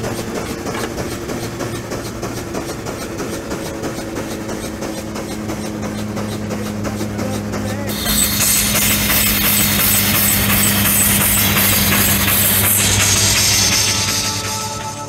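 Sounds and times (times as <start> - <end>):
steam engine exhaust chuffing: 0.0 - 15.0.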